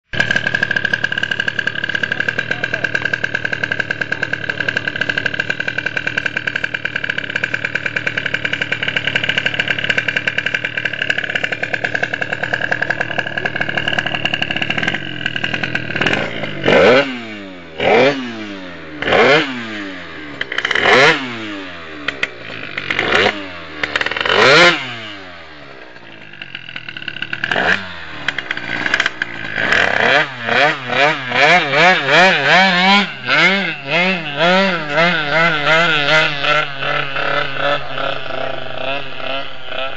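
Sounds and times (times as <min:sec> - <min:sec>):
two-stroke scooter engine revving: 0:00.1 - 0:39.9.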